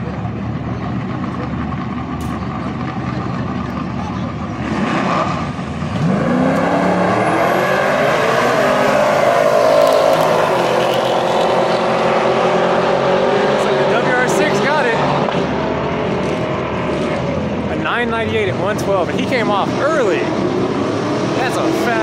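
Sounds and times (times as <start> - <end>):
drag cars accelerating: 0.0 - 22.0.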